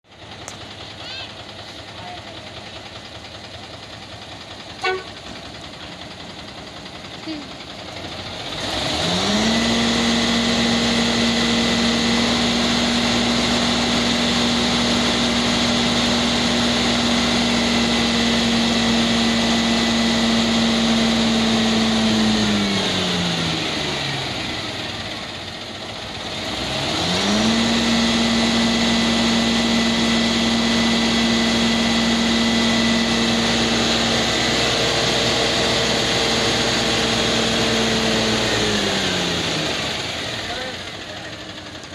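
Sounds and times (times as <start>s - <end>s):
engine revving: 7.2s - 41.9s.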